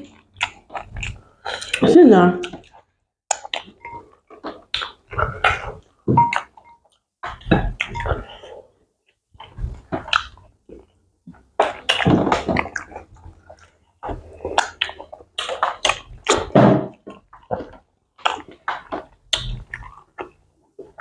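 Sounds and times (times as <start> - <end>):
wet chewing and smacking: 0.0 - 21.0.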